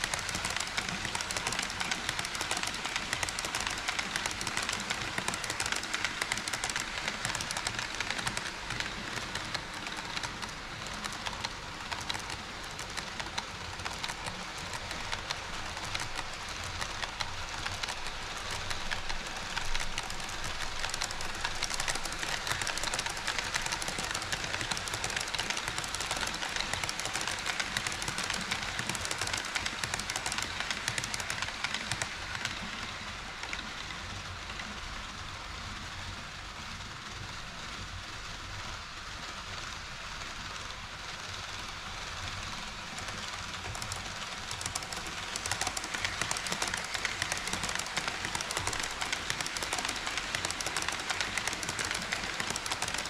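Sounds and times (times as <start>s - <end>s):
model train wheels clicking: 0.0s - 53.0s.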